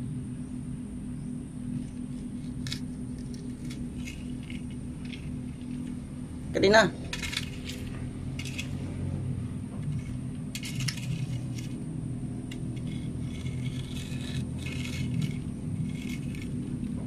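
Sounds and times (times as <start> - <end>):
steady low hum: 0.0 - 17.0
pole scraping gravel: 1.8 - 6.1, 7.0 - 9.2, 9.8 - 17.0.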